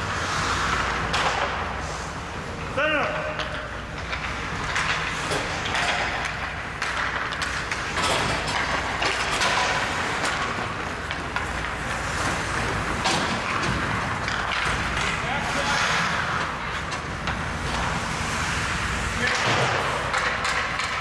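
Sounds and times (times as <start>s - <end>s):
hockey sticks and puck clacking: 0.0s - 21.0s
skate blades scraping ice: 0.0s - 21.0s.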